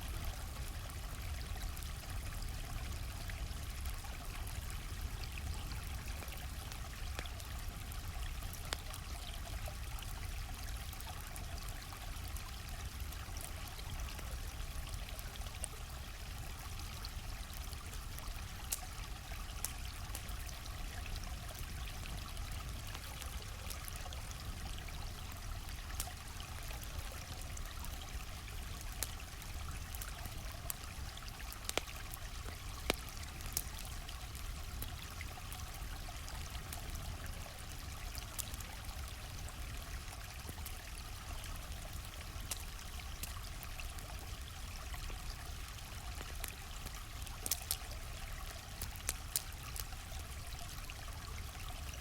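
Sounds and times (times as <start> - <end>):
campfire popping and crackling: 0.0 - 52.0
stream flowing: 0.0 - 52.0.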